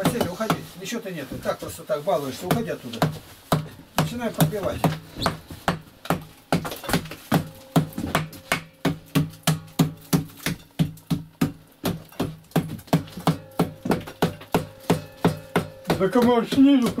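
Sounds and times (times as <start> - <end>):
hammer striking brick wall: 0.0 - 0.8, 2.4 - 17.0.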